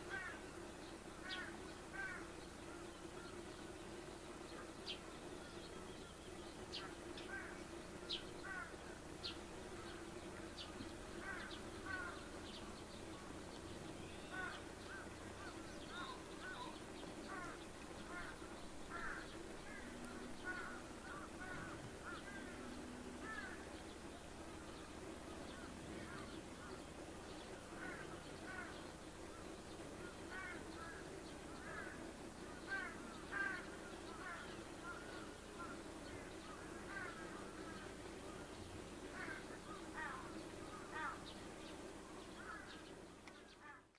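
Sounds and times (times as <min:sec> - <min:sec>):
birds chirping: 0:00.0 - 0:43.9
faint low hum: 0:00.0 - 0:43.9.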